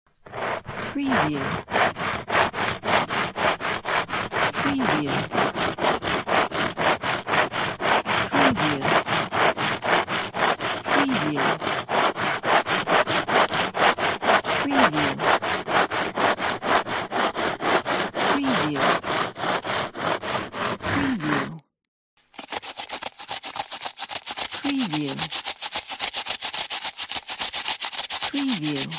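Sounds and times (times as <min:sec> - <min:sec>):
hand saw cutting wood: 0:00.1 - 0:21.6, 0:22.2 - 0:28.9.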